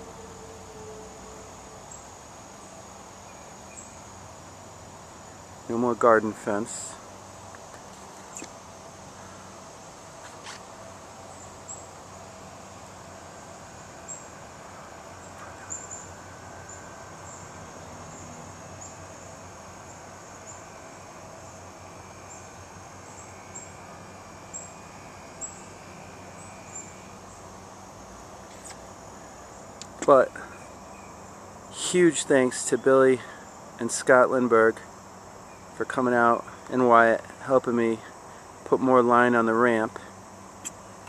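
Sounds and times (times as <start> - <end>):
faint steady hum: 0.0 - 41.0
insects chirping: 0.0 - 41.0.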